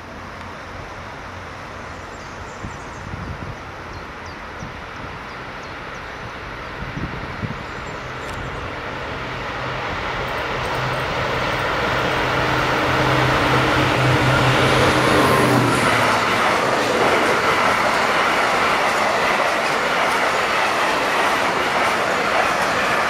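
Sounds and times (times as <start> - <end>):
locomotive engine drone: 3.7 - 23.0.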